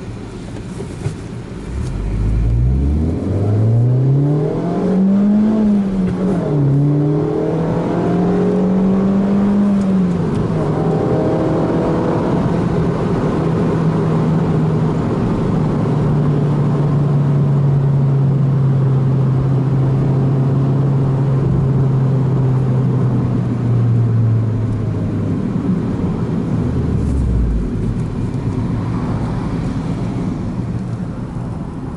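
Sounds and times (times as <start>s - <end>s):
car engine revving while driving: 1.4s - 31.9s.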